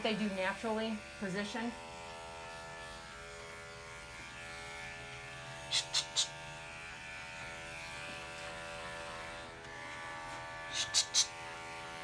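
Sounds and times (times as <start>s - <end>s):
electric clipper buzzing: 0.0s - 12.0s.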